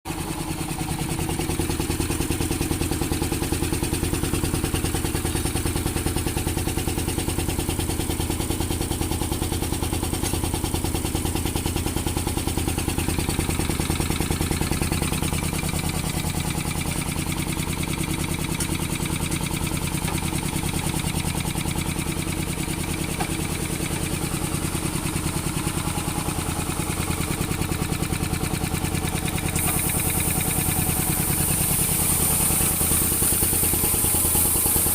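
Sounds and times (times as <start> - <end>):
air compressor running: 0.1 - 34.9.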